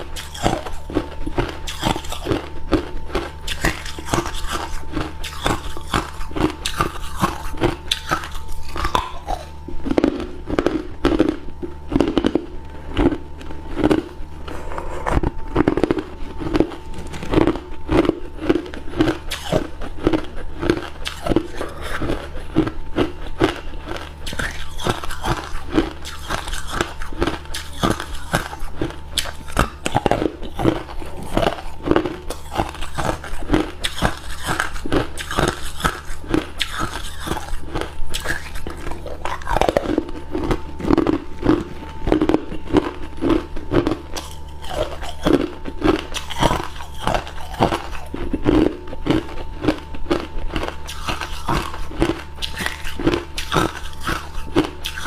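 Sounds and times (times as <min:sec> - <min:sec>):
faint low hum: 0:00.0 - 0:55.0
person chewing ice cubes: 0:00.0 - 0:55.0.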